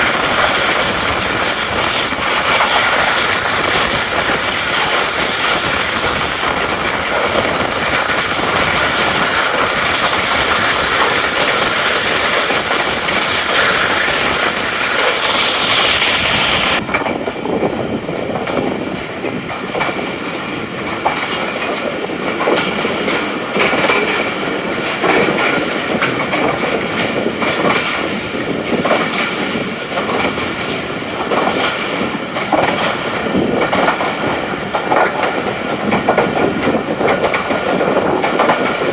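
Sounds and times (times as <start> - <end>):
clickety-clack of rail joints: 0.0 - 38.9
train wheel rumble on rails: 0.0 - 38.9.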